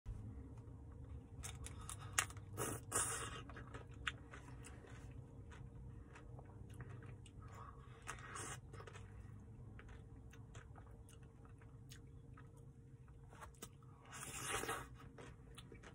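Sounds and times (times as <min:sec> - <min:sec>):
crunching and chewing: 0:00.9 - 0:15.9.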